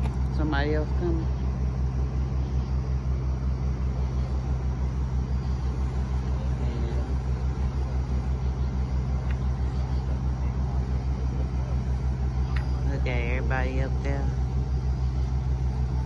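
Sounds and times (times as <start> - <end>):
heavy engine idling: 0.0 - 16.0.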